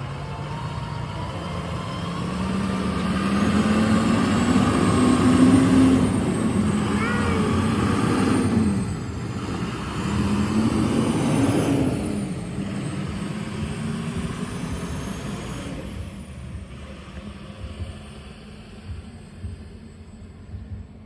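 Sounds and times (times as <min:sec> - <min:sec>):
vehicle engine pulling away: 0:00.0 - 0:21.0.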